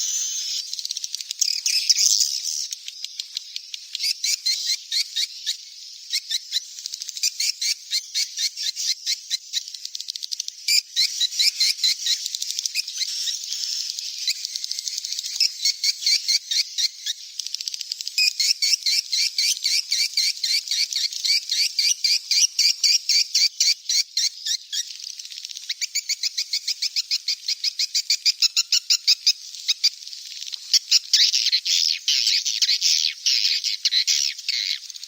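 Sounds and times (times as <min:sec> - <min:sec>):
bird chicks chirping rapidly: 0:00.0 - 0:35.0.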